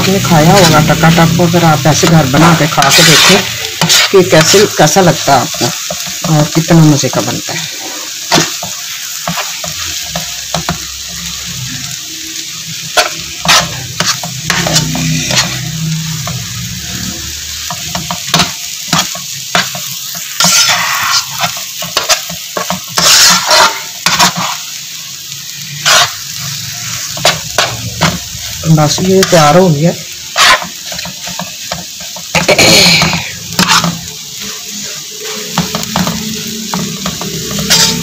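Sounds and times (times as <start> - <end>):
metal spatula scraping a pan: 0.0 - 6.3, 7.0 - 11.9, 12.6 - 24.9, 25.5 - 38.0
food sizzling: 0.0 - 38.0.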